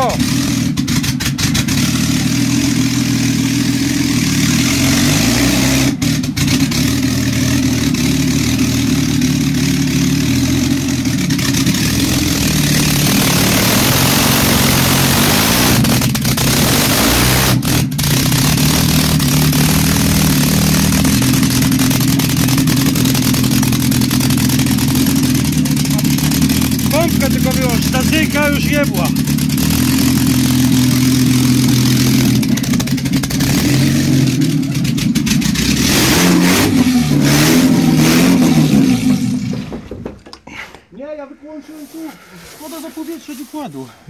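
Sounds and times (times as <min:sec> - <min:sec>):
loud car engine running: 0:00.0 - 0:40.6
exhaust hissing: 0:00.0 - 0:44.0.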